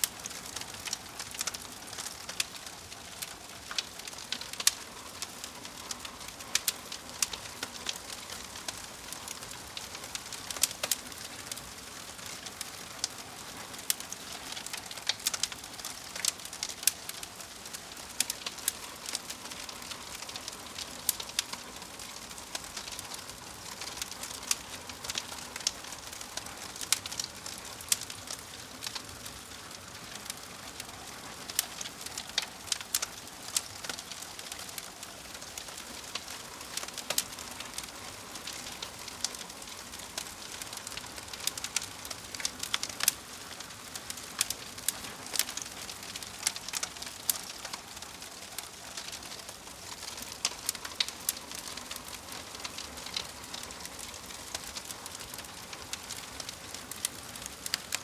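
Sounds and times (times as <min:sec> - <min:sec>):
logs crackling in a fireplace: 0:00.0 - 0:58.0.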